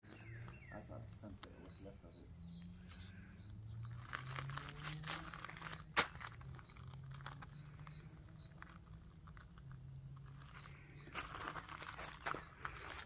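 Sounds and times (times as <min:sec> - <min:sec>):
high chirps: 0:00.1 - 0:13.0.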